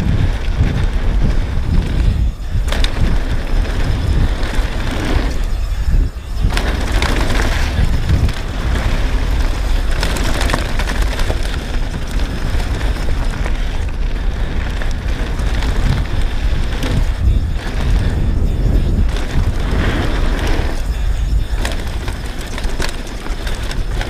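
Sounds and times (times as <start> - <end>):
bike clicks and rattles: 0.0 - 24.0
bike tyres crunching on dirt: 0.0 - 24.0
wind rumble on microphone: 0.0 - 24.0.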